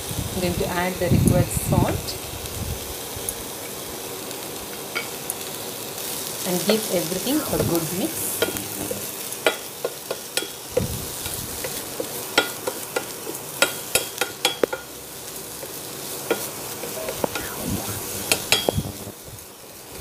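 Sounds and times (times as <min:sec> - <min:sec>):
light frying sizzle: 0:00.0 - 0:20.0.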